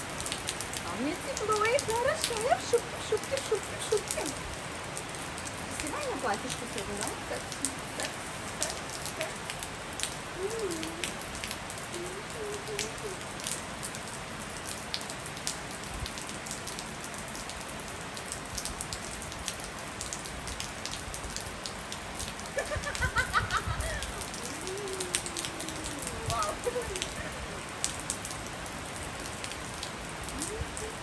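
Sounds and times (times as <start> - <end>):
rain on a tiled roof: 0.0 - 31.0.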